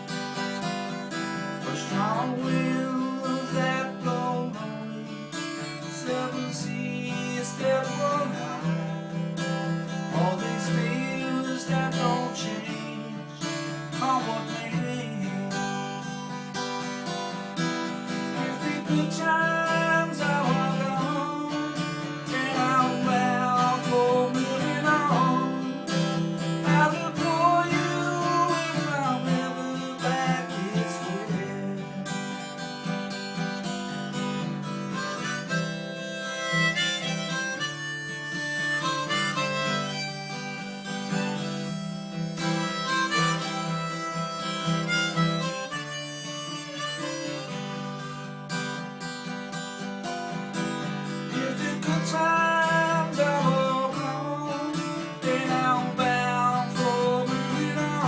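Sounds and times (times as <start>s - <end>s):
harmonica solo: 0.0s - 58.0s
strummed acoustic guitar: 0.0s - 58.0s.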